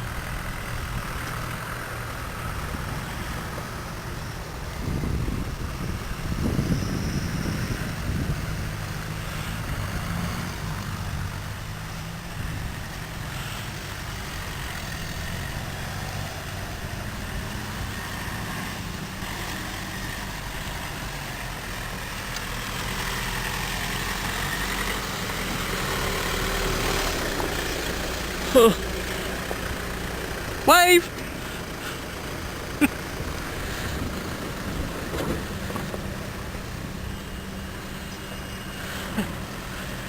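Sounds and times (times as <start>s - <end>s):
engine running at low revs: 0.0s - 40.0s.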